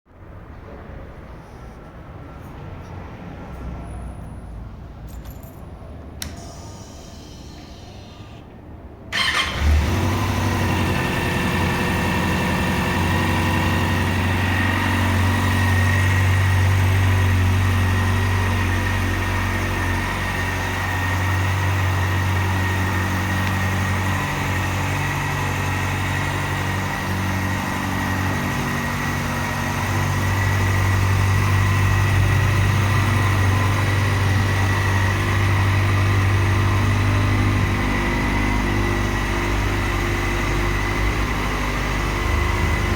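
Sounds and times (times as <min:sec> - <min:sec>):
motorcycle engine starting and idling: 0:05.1 - 0:42.9.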